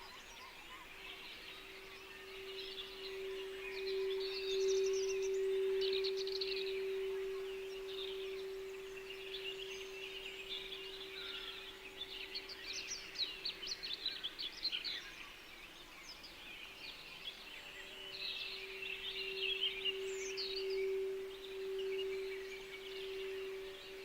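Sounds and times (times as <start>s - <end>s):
low sustained tone: 0.0s - 24.0s
songbirds chirping: 0.0s - 24.0s.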